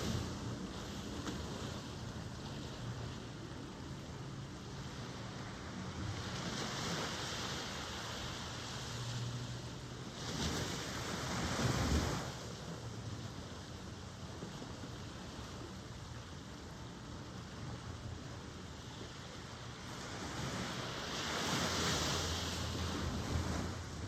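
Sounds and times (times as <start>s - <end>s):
ocean surf washing ashore: 0.0s - 24.0s.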